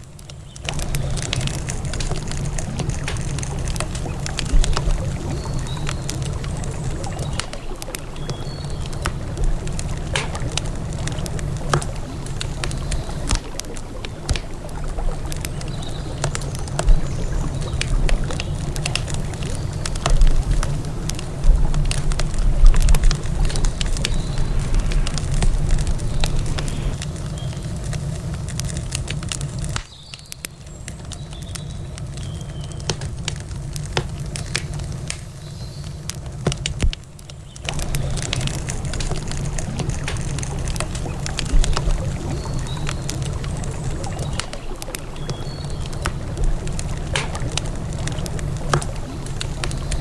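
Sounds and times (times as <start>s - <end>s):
wood fire crackling: 0.0s - 50.0s
steady low rumble: 0.6s - 29.3s, 37.7s - 50.0s.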